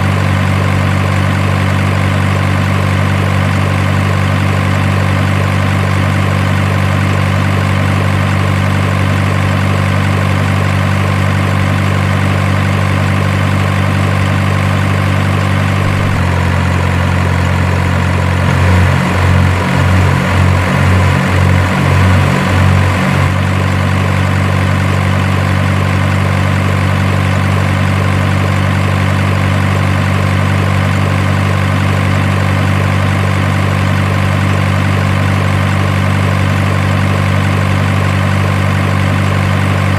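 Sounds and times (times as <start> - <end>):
synthetic truck engine idling: 0.0 - 39.9.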